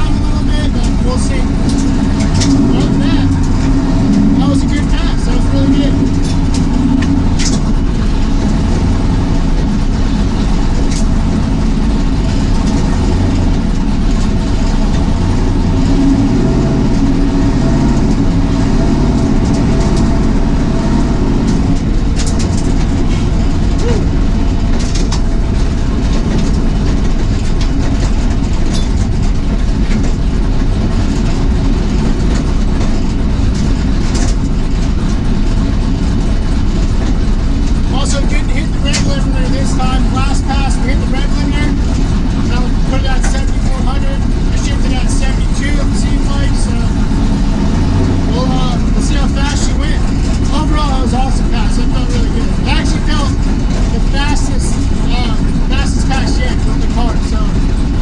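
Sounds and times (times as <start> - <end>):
car engine low revs: 0.0 - 58.0.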